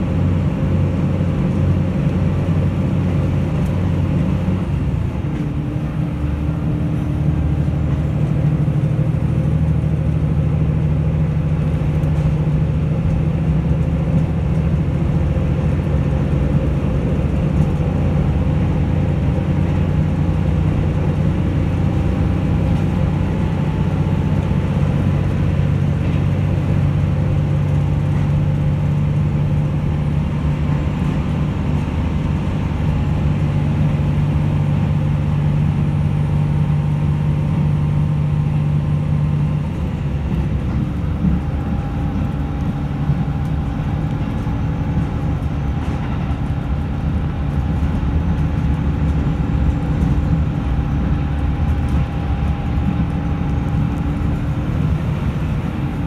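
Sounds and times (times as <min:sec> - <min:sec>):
diesel railcar engine drone: 0:00.0 - 0:56.0
wheels rolling on rails: 0:00.0 - 0:56.0.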